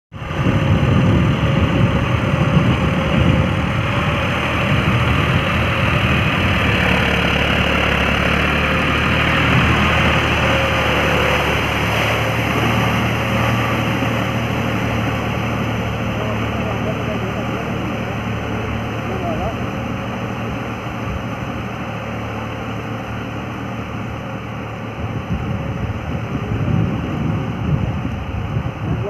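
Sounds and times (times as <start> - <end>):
tractor diesel engine running: 0.1 - 29.0.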